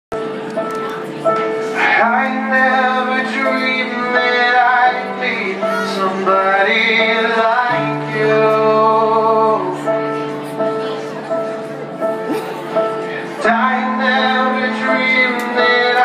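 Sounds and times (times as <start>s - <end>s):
sustained keyboard chords: 0.1s - 16.0s.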